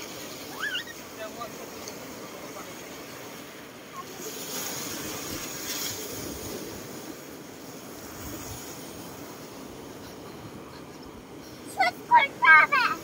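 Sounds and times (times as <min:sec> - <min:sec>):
sea waves on rocky shore: 0:00.0 - 0:13.0.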